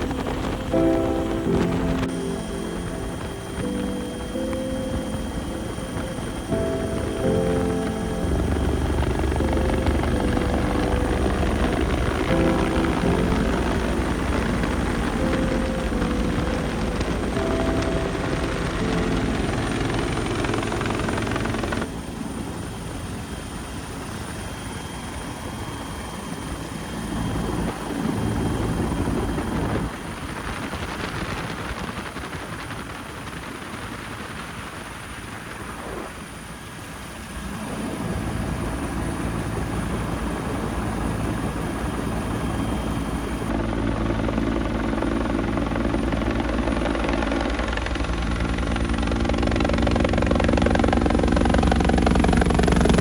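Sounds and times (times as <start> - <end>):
helicopter rotor and engine: 0.0 - 53.0.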